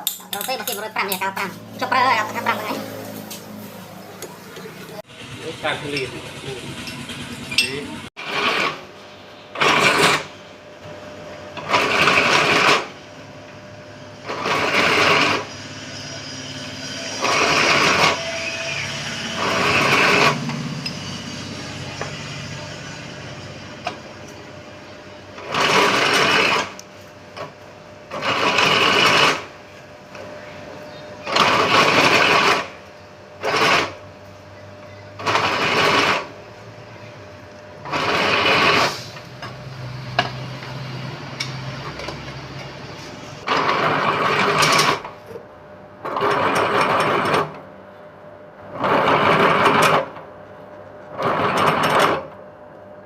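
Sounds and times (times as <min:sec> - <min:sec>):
steady machine hum: 0:00.0 - 0:52.0.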